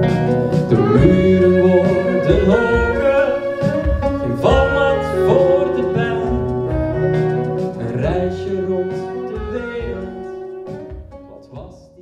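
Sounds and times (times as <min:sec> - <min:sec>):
tenor saxophone melody: 0:00.0 - 0:11.1
live band accompaniment: 0:00.0 - 0:11.4.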